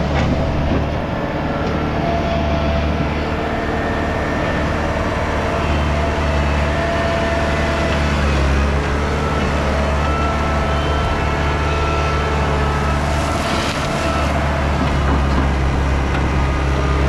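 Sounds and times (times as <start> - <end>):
skid steer engine under load: 0.0 - 17.0.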